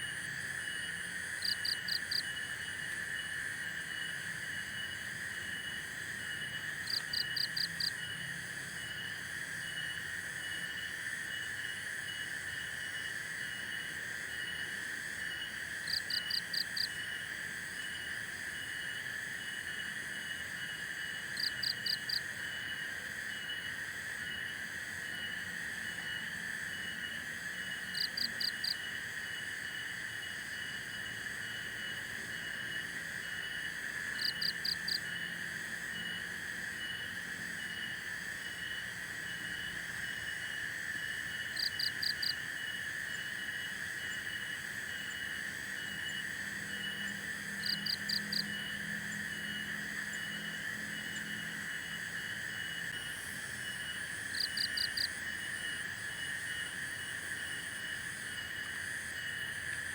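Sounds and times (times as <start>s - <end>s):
crickets droning: 0.0s - 59.9s.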